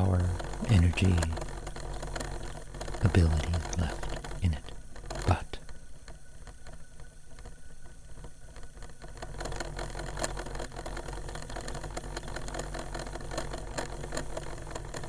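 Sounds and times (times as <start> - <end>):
cd player motor whirring: 0.0 - 15.0.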